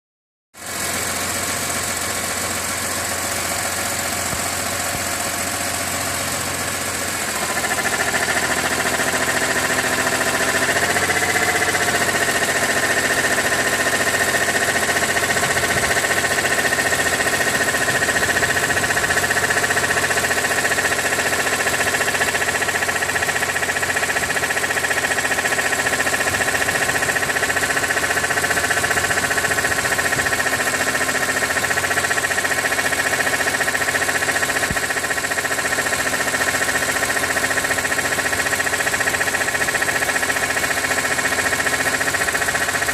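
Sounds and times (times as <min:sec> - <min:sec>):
car engine running: 0:00.6 - 0:42.9.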